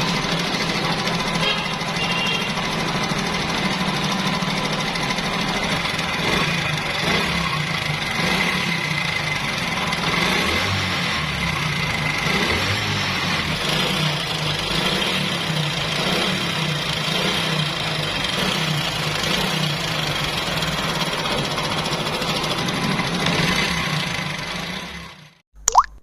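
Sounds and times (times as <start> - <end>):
motorcycle engine idling: 0.0 - 25.4.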